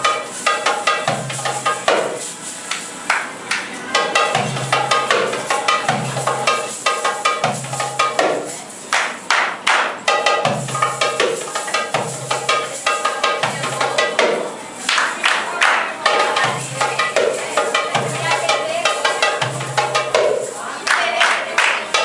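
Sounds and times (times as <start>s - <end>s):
goblet drum playing: 0.0s - 2.3s, 3.8s - 8.6s, 9.2s - 14.6s, 15.5s - 22.0s.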